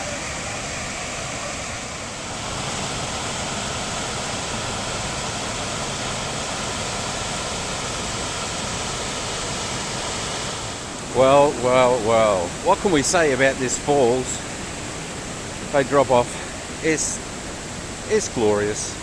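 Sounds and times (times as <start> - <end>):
waterfall gushing: 0.0 - 19.0.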